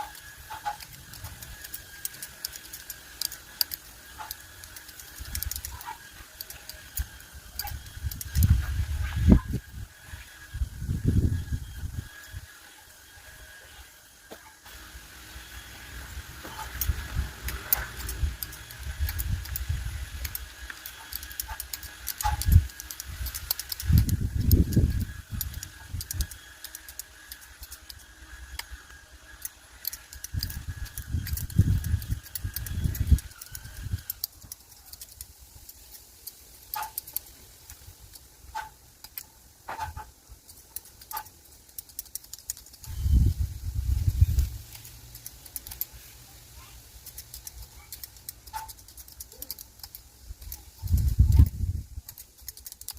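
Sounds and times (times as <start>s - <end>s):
pruning shears clicking and snipping: 0.0s - 9.8s, 15.8s - 52.9s.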